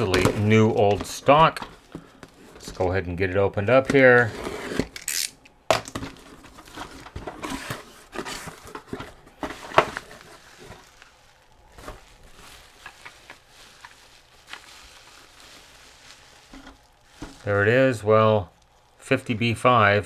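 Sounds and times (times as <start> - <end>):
packaging rustling and crinkling: 0.0 - 3.0, 3.9 - 19.0.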